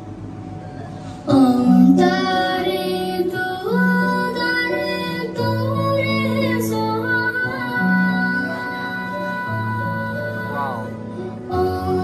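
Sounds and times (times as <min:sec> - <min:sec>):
high voice singing slow melody: 0:01.3 - 0:12.0.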